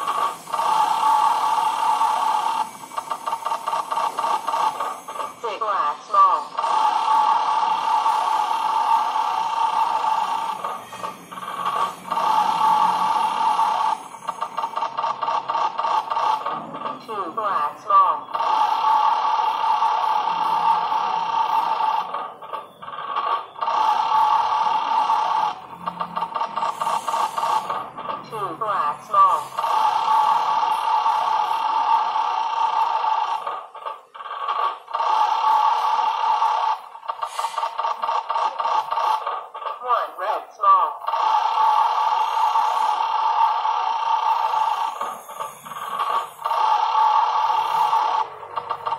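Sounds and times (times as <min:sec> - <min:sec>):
fast electronic ticks: 0:00.0 - 0:17.0, 0:18.1 - 0:39.8, 0:40.8 - 0:48.9.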